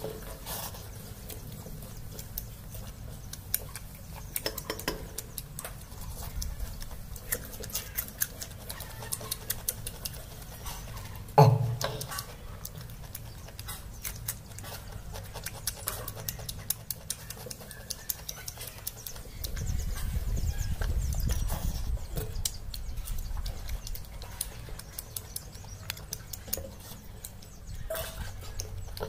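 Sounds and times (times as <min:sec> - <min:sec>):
person chewing: 0:00.0 - 0:29.0.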